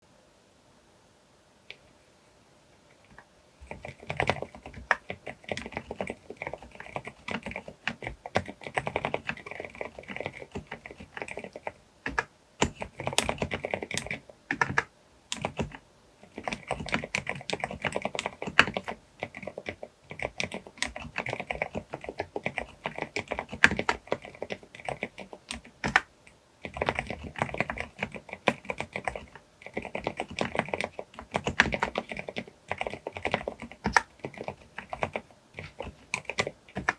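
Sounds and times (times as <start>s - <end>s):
fast typing on mechanical keyboard: 3.1s - 36.9s.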